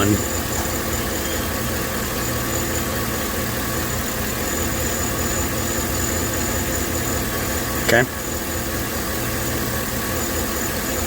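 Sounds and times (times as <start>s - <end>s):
engine idling with misfires: 0.0s - 11.0s.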